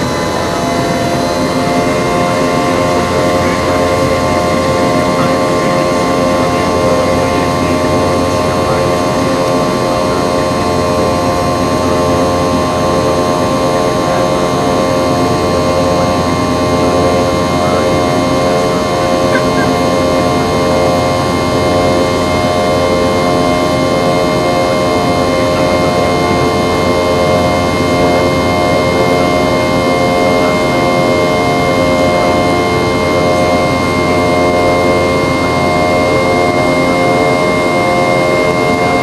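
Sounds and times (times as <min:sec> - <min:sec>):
airliner cabin engine drone: 0:00.0 - 0:39.0
steady whining engine tones: 0:00.0 - 0:39.0.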